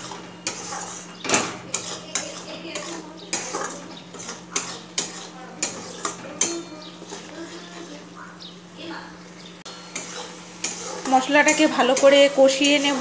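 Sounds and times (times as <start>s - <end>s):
spatula scraping a pan: 0.0s - 8.2s, 9.7s - 13.0s.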